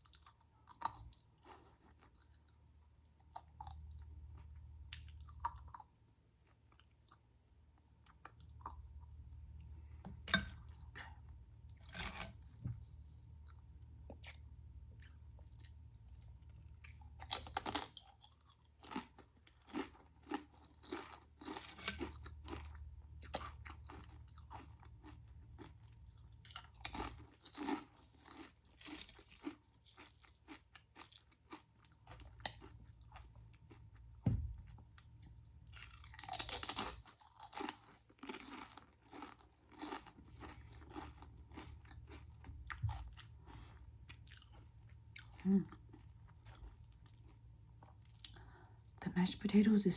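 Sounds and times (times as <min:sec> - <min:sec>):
crunching and chewing crispy food: 0:00.0 - 0:49.0.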